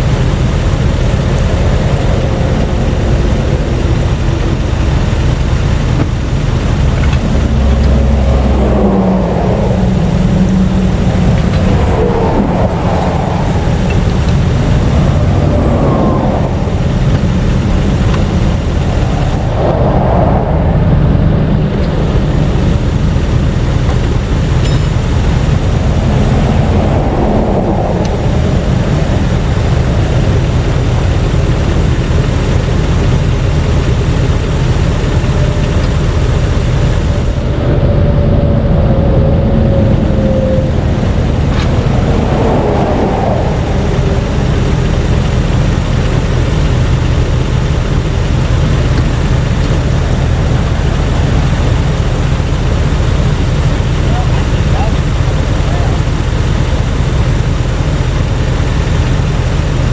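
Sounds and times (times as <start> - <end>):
low engine hum: 0.0 - 59.9
vehicles passing: 0.0 - 59.9.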